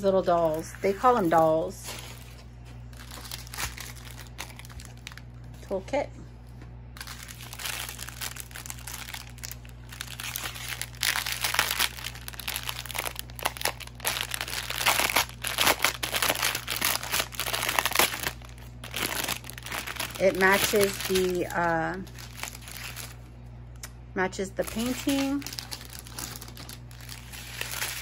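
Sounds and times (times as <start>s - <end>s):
plastic bag crinkling: 0.0s - 5.7s, 7.0s - 23.3s, 24.6s - 28.0s.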